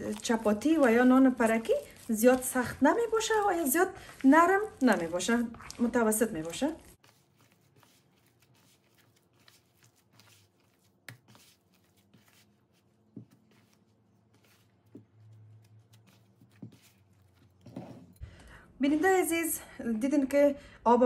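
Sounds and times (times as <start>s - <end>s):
hands kneading dough: 0.0s - 17.6s.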